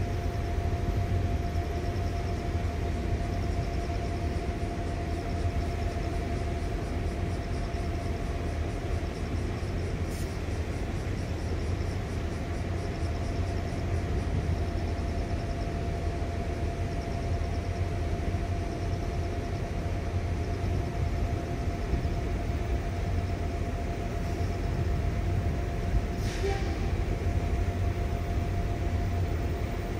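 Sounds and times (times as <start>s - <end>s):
constant mid-pitched tone: 0.0s - 29.9s
low machinery hum: 0.0s - 29.9s.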